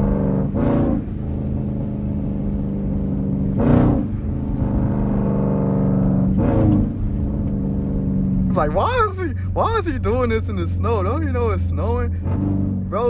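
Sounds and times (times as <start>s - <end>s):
loud exhaust note: 0.0s - 10.4s, 11.6s - 13.0s
car engine running: 0.0s - 13.0s.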